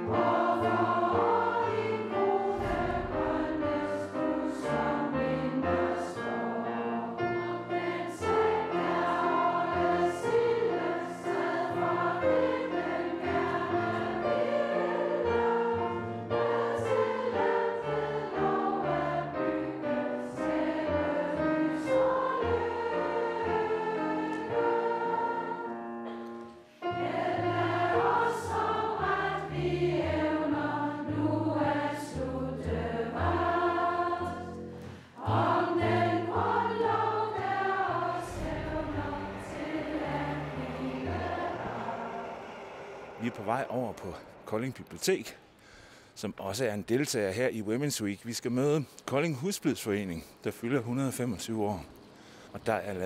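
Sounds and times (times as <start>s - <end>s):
low steady accompaniment: 0.0s - 45.7s
group of voices singing in chorus: 0.0s - 46.0s.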